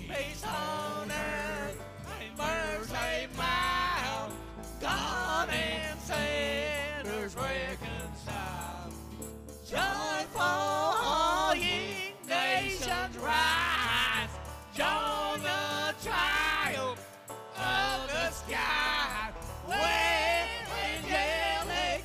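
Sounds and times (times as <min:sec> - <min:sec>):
choir singing: 0:00.0 - 0:08.9, 0:09.7 - 0:22.0
musical backing: 0:00.0 - 0:22.0.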